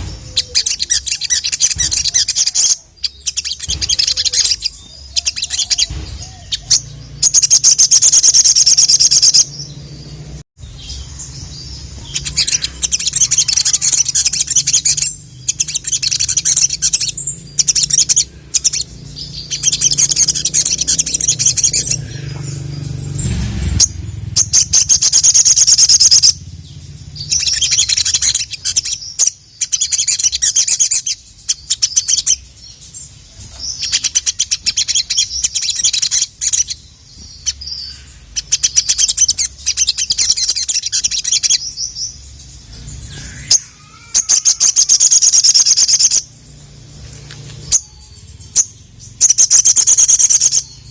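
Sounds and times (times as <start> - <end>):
bird chattering trills: 0.0 - 50.9.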